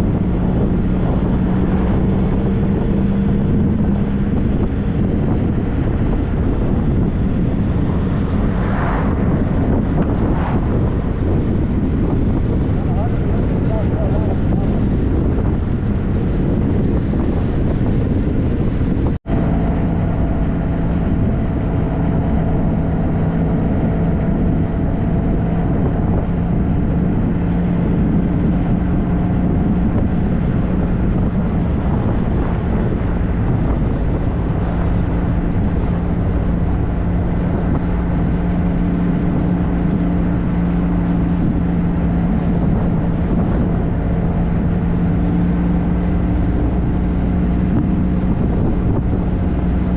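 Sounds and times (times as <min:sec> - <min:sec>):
motorcycle engine cruising: 0:00.0 - 0:49.9
wind and road noise: 0:00.0 - 0:49.9.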